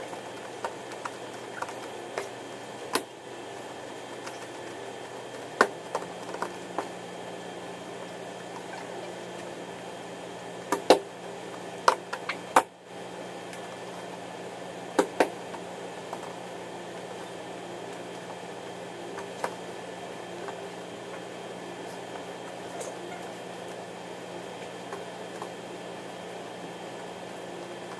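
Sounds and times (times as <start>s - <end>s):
room hum: 0.0s - 27.9s.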